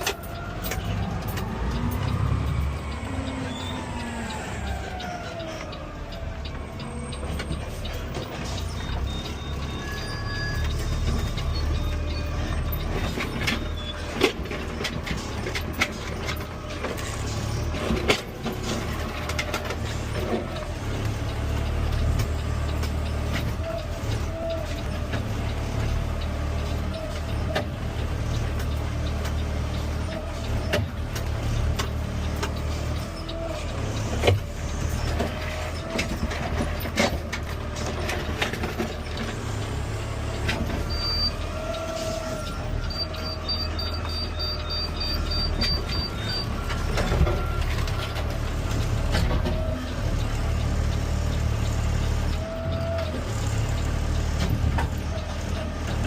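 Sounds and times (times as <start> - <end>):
garbage truck engine rumble: 0.0 - 56.0.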